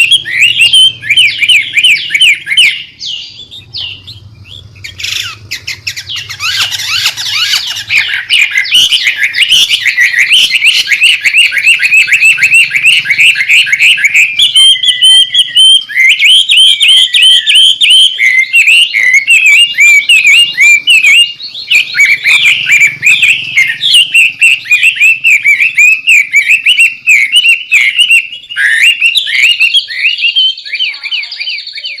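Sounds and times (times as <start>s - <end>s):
songbird singing rapid notes: 0.0s - 32.0s.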